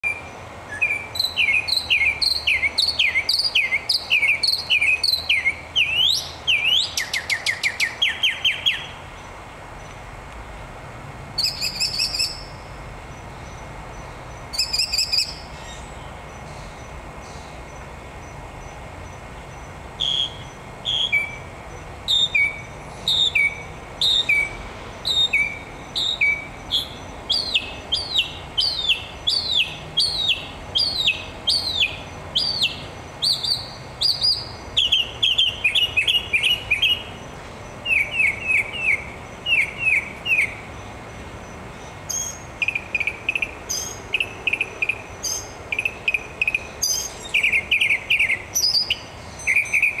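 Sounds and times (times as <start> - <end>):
songbird singing: 0.0 - 50.0.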